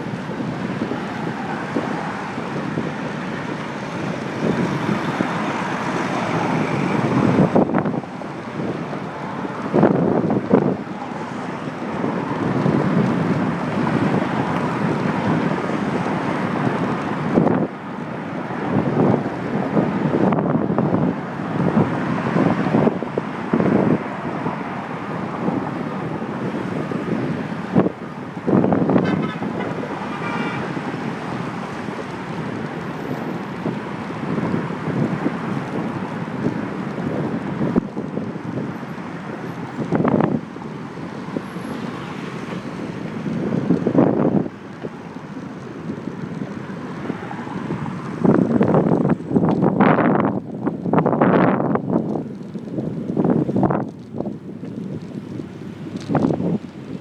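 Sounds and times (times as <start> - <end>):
city traffic noise: 0.0 - 57.0
wind buffeting microphone: 0.0 - 57.0.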